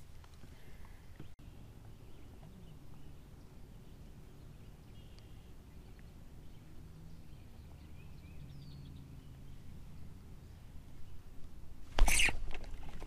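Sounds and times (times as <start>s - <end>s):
distant bird chirps: 0.6s - 11.3s, 12.0s - 12.4s.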